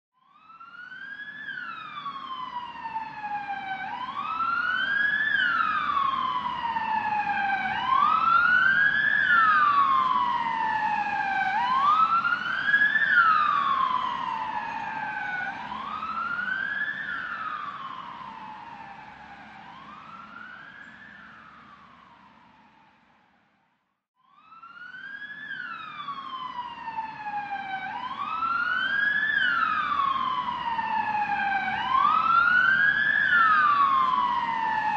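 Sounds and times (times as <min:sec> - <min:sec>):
ambulance siren wailing: 0:00.2 - 0:23.4, 0:24.2 - 0:34.9
low engine and road rumble: 0:00.2 - 0:23.5, 0:24.3 - 0:34.9.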